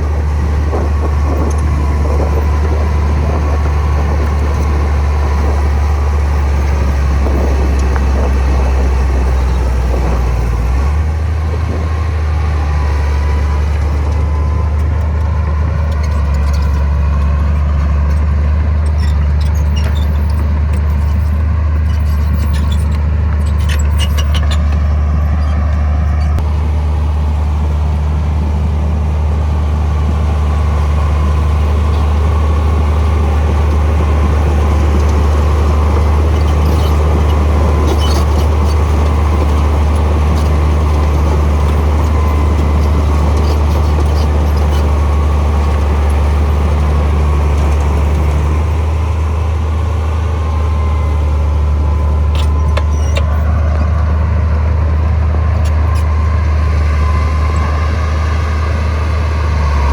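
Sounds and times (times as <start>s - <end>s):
heavy diesel engine droning: 0.0s - 59.9s.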